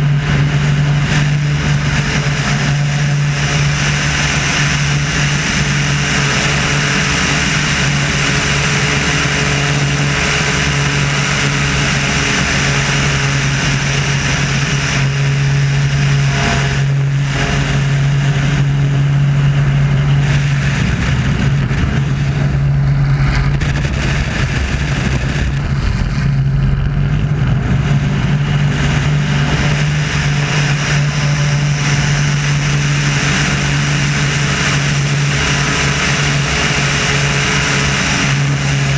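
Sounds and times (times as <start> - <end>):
radial aircraft engine and propeller: 0.0 - 38.9
wind rush: 0.0 - 38.9.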